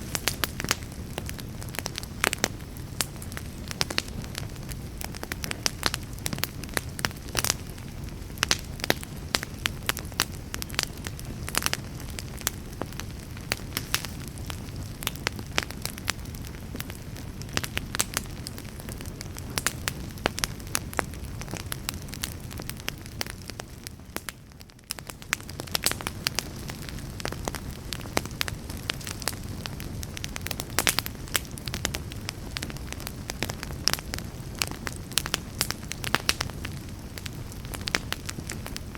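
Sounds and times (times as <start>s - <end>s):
flames rushing: 0.0s - 24.3s, 24.9s - 38.9s
logs crackling and popping: 0.0s - 38.9s.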